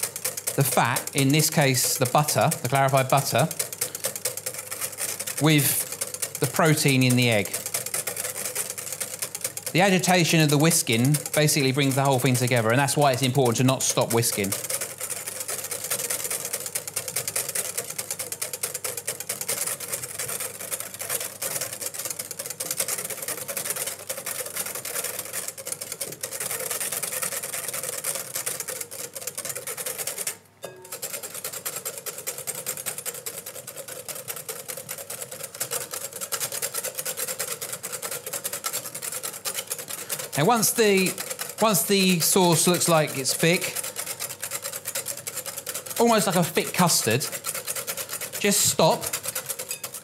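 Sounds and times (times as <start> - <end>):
whisk rattling against glass bowl: 0.0 - 50.0.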